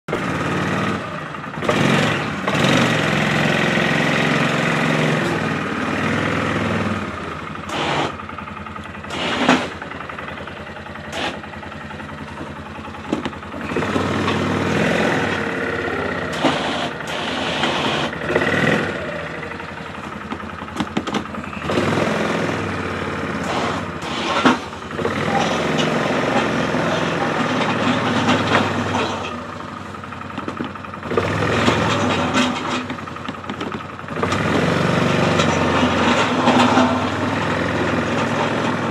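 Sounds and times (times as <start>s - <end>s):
engine running while plowing slush: 0.1s - 38.9s.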